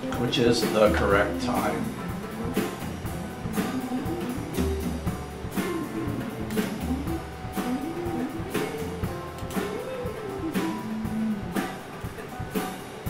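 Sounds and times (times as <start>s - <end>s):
guitar music with drum beat: 0.0s - 13.0s.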